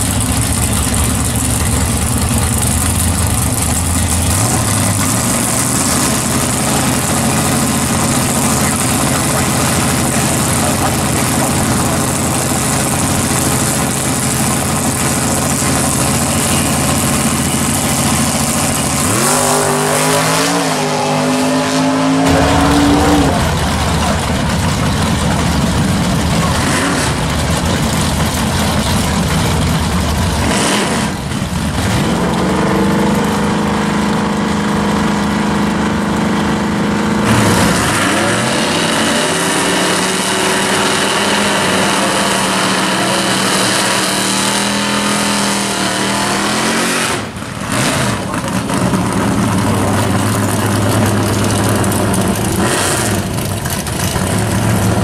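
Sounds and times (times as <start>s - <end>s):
drag racing car engines revving: 0.0s - 55.0s.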